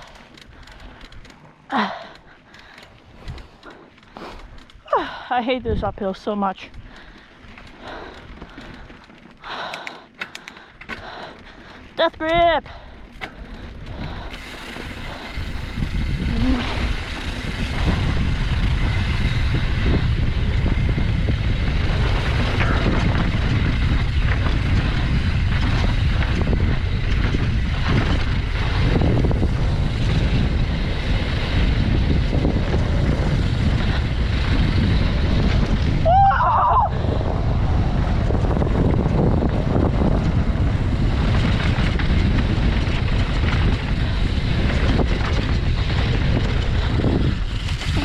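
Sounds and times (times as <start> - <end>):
bike rattling: 0.0 - 48.0
wind buffeting microphone: 0.0 - 48.0.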